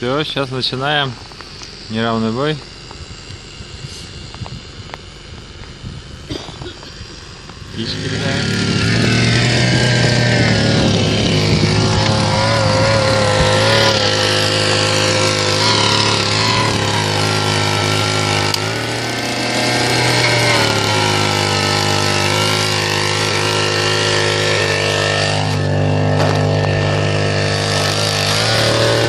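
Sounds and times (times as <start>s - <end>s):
small petrol engine running: 0.0s - 29.0s.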